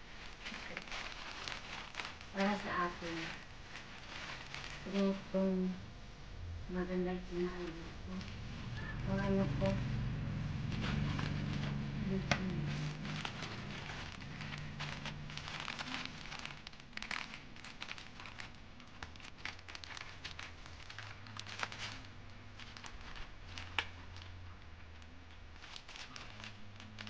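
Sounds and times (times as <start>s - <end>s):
plastic bags crinkling: 0.0s - 5.8s, 7.1s - 27.0s
faint low hum: 0.0s - 27.0s.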